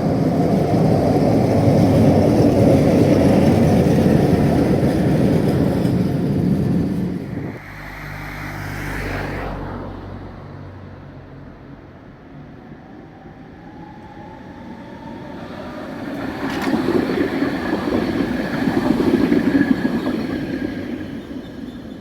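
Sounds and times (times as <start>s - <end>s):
tram wheels rumbling on rails: 0.0s - 8.3s, 12.2s - 22.0s.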